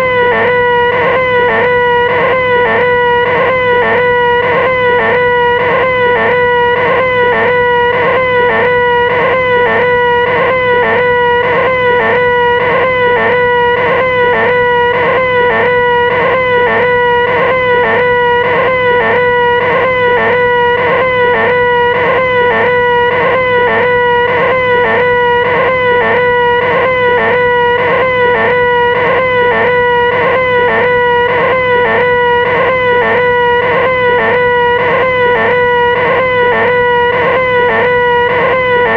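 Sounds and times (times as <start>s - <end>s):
person making whiny high drone: 0.0s - 38.9s.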